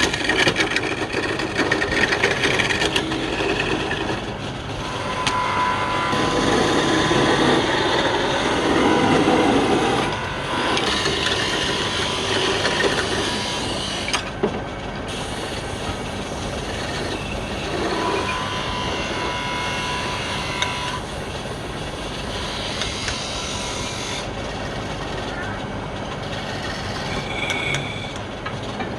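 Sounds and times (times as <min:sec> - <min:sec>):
wood lathe cutting wood: 0:00.0 - 0:14.3, 0:15.1 - 0:24.9.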